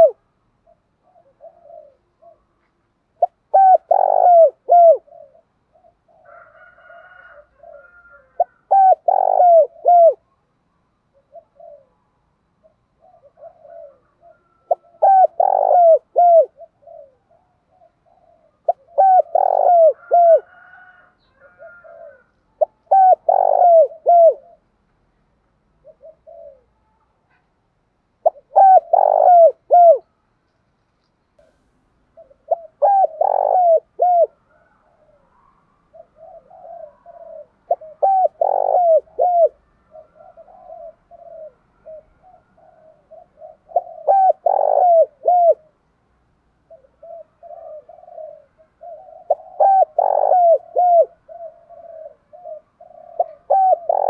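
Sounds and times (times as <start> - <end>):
dove cooing: 0.0 - 10.4, 11.1 - 24.8, 25.7 - 27.4, 28.2 - 30.2, 31.4 - 45.9, 46.6 - 54.0.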